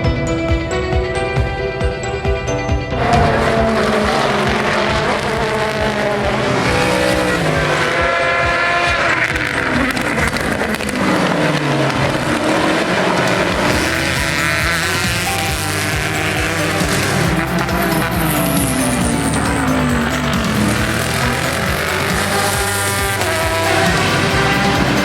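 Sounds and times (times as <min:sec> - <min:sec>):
race car engines: 0:03.0 - 0:25.0.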